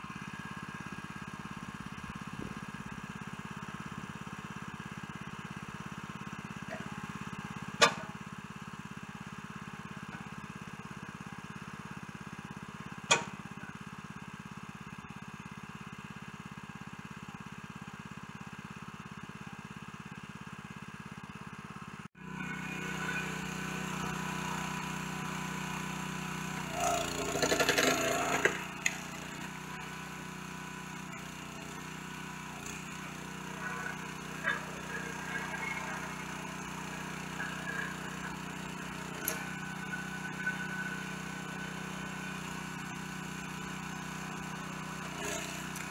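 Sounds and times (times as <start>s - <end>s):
small gasoline engine running: 0.0s - 45.9s.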